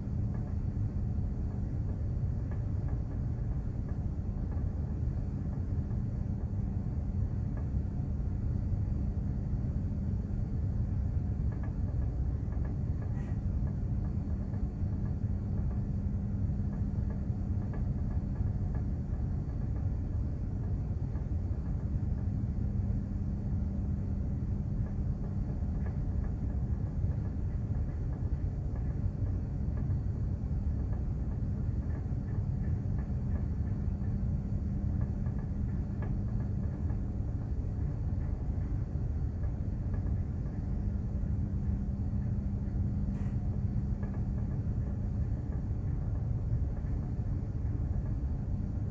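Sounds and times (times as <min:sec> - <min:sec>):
constant machinery hum: 0:00.0 - 0:48.9
ship engine low rumble: 0:00.0 - 0:48.9.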